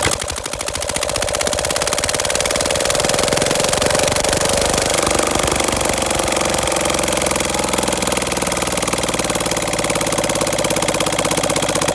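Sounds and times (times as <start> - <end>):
diesel engine idling: 0.1 - 11.9.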